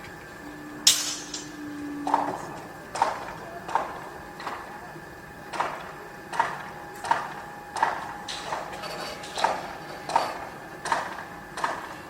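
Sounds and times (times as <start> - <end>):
faint machine hum: 0.0 - 12.0.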